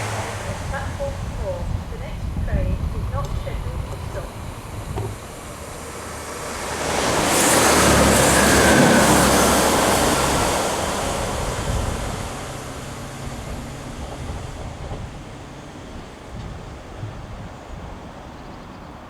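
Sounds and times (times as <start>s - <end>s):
steam train passing at speed: 0.0s - 19.0s.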